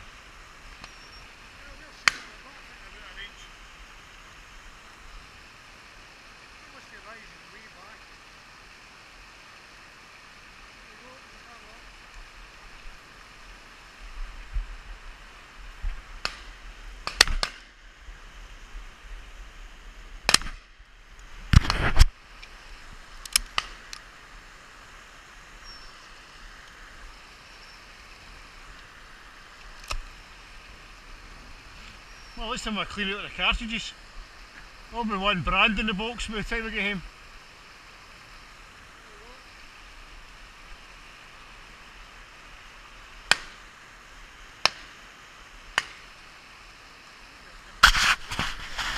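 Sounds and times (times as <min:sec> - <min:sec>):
stream rushing: 0:00.0 - 0:48.9.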